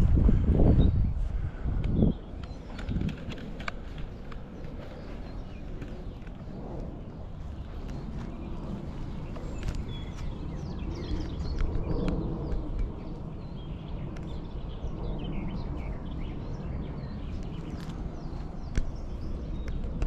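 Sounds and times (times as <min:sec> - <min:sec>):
wind rumble on microphone: 0:00.0 - 0:20.0
small birds chirping: 0:01.8 - 0:20.0.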